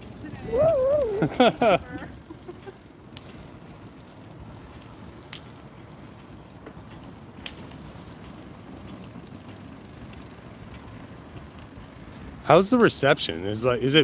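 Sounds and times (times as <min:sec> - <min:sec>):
bicycle tyres rolling on asphalt: 0:00.0 - 0:14.0.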